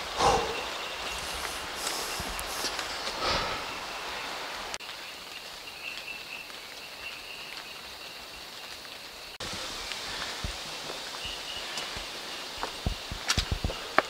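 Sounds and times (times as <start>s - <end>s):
light rain on foliage: 0.0s - 14.0s.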